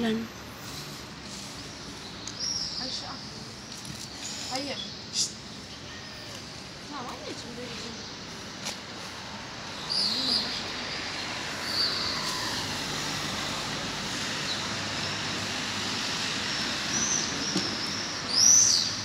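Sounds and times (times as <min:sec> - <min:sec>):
city street traffic hum: 0:00.0 - 0:19.0.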